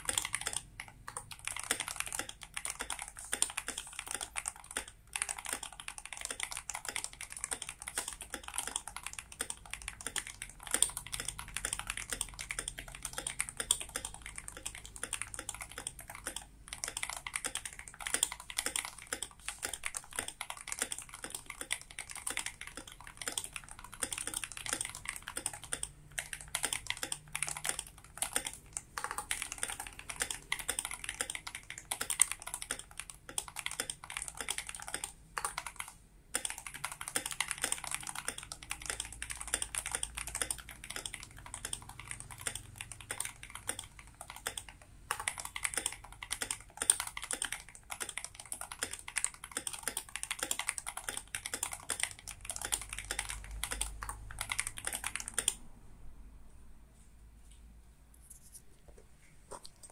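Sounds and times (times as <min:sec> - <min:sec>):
mechanical keyboard typing: 0:00.0 - 0:55.7.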